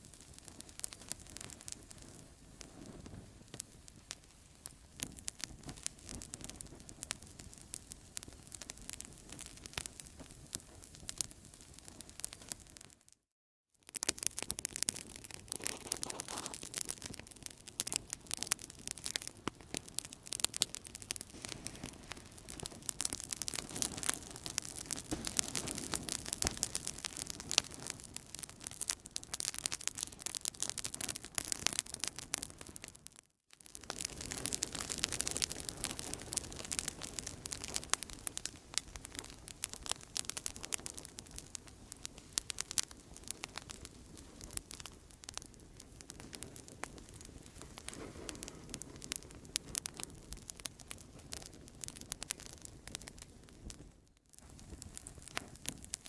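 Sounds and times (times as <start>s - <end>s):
campfire crackling and popping: 0.0s - 13.1s, 13.8s - 56.0s.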